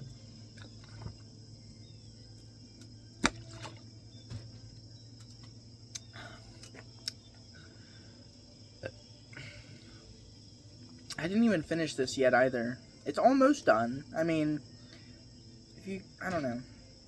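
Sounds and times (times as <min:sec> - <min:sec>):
faint high-pitched whine: 0:00.0 - 0:17.0
low hum: 0:00.0 - 0:17.0.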